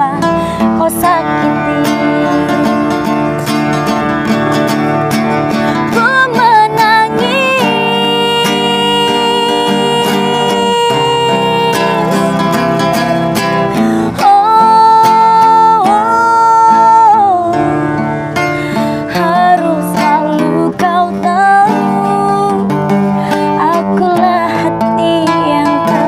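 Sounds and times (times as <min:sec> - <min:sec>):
strummed acoustic guitar: 0:00.0 - 0:26.0
woman singing: 0:00.0 - 0:26.0.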